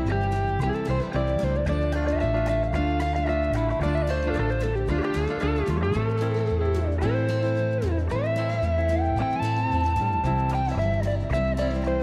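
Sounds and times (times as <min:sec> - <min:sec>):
bass notes: 0:00.0 - 0:12.0
plucked guitar melody: 0:00.0 - 0:12.0
regular beat: 0:00.0 - 0:12.0.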